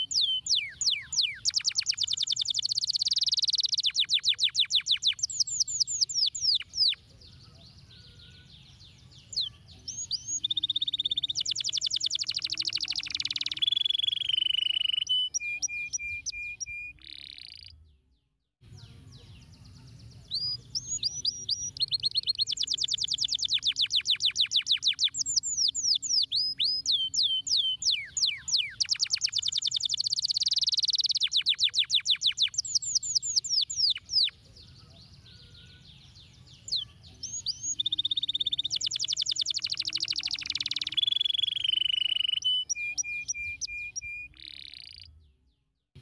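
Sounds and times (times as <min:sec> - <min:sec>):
canary singing trills and whistles: 0:00.0 - 0:17.8, 0:18.8 - 0:45.3.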